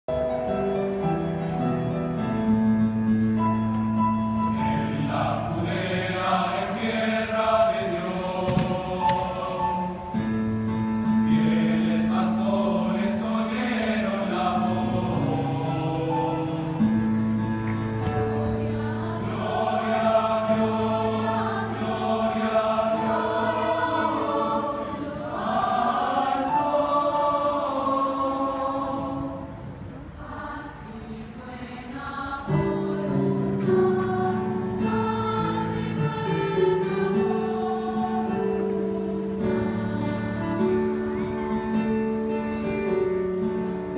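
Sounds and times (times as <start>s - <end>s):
mixed choir singing: 4.1s - 43.9s.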